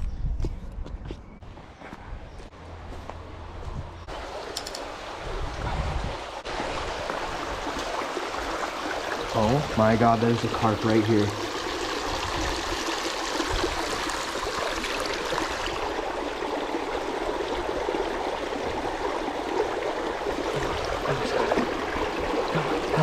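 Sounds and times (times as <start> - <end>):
water rushing: 4.1 - 23.0.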